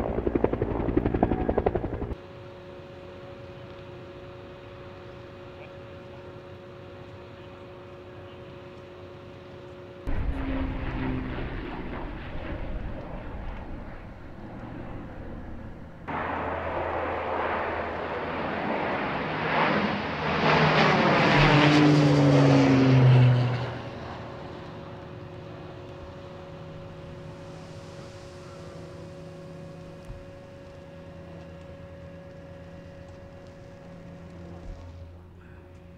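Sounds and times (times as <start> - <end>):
aircraft engines flying overhead: 0.0 - 35.9.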